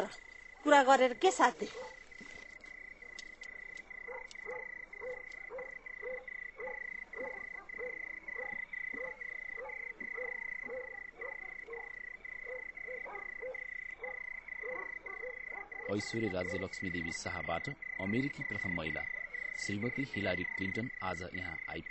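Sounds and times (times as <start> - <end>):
frogs croaking: 0.0 - 21.9.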